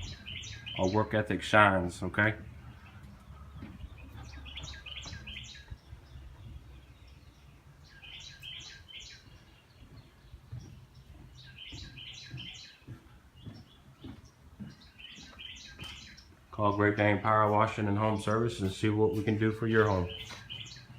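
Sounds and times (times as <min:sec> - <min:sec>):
songbird singing: 0:00.0 - 0:20.9.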